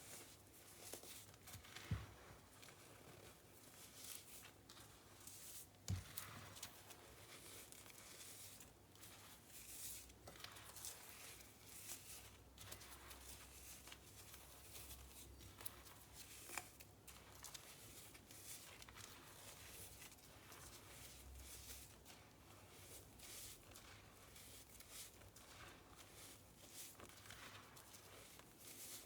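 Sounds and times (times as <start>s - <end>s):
powder squeaking and crunching: 0.0s - 29.0s.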